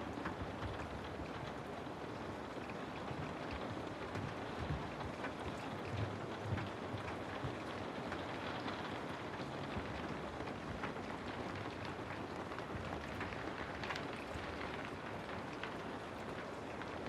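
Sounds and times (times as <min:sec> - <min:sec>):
raindrop ticks: 0:00.1 - 0:17.0.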